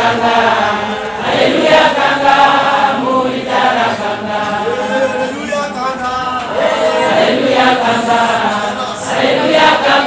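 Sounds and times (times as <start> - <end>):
congregation singing a hymn: 0.0 - 10.0.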